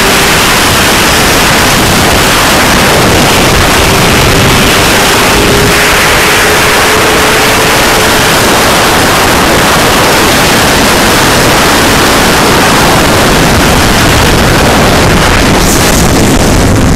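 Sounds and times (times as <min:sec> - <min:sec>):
motorcycle engine running: 0:00.0 - 0:16.9
wind rushing over microphone: 0:00.0 - 0:16.9.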